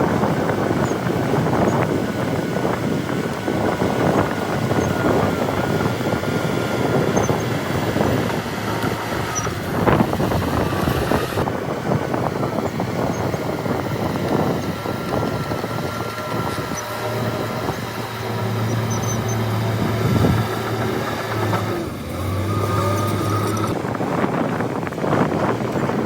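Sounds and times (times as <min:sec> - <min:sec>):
earthmoving machinery diesel engine: 0:00.0 - 0:26.0.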